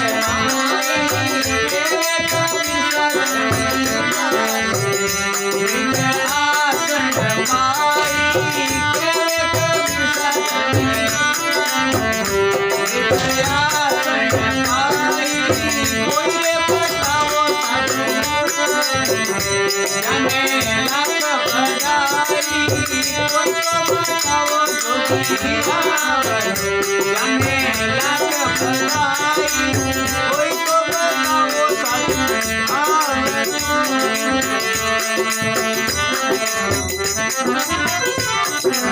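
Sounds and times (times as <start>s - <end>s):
jingling rhythmic percussion: 0.0s - 38.9s.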